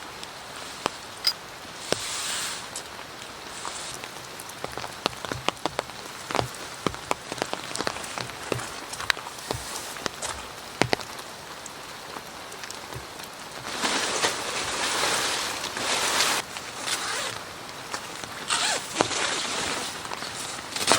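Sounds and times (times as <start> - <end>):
rain falling: 0.0 - 20.9
raindrops tapping on a surface: 0.0 - 20.9.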